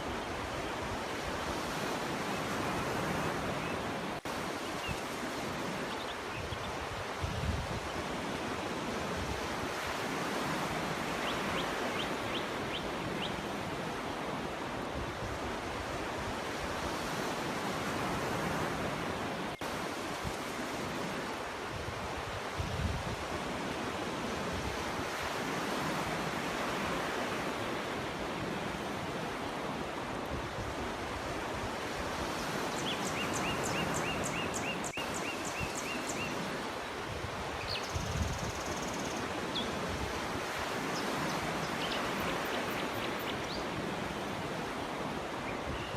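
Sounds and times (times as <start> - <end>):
sea waves washing onto beach: 0.0 - 45.8.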